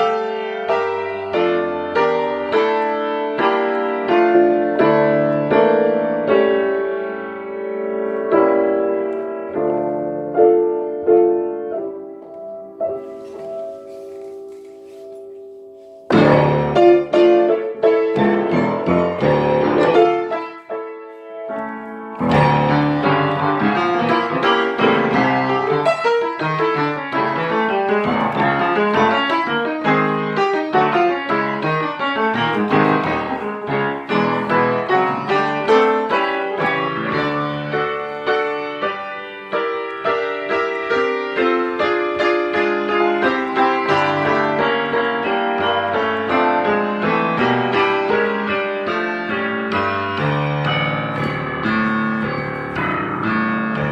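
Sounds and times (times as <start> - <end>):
piano music with quick notes: 0.0 - 53.9.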